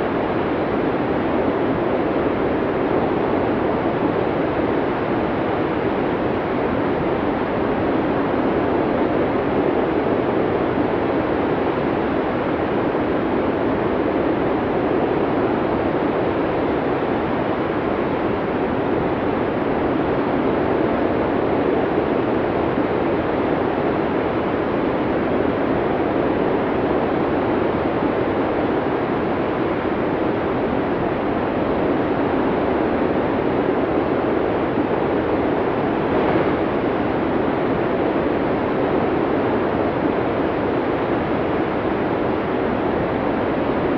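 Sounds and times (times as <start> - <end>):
snowstorm wind blowing hard: 0.0 - 43.9.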